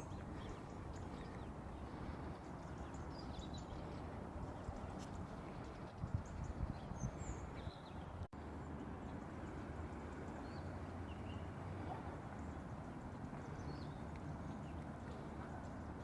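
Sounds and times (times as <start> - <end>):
low outdoor noise: 0.0 - 16.0.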